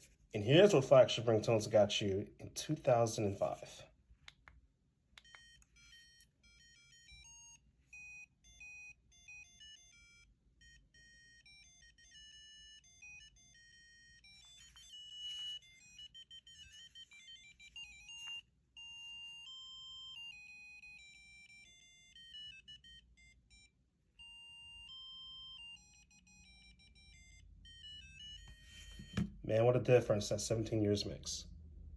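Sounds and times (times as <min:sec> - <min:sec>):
faint synthesized ringtone: 0:05.2 - 0:31.2.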